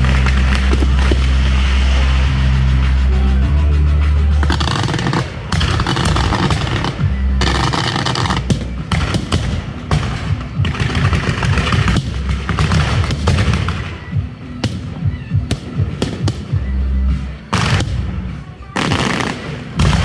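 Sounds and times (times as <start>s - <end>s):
fireworks crackling: 0.0s - 20.0s
fireworks hissing: 0.0s - 20.0s
music: 0.0s - 20.0s.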